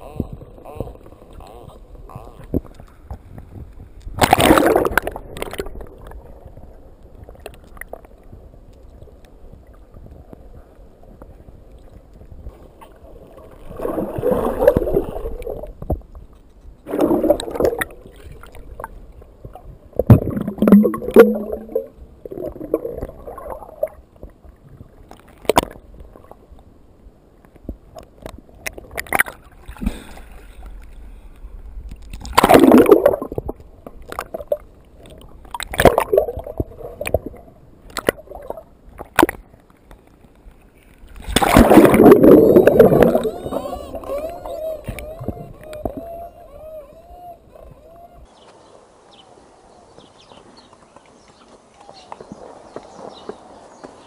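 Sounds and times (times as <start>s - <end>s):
muffled underwater water rushing: 0.0s - 46.7s.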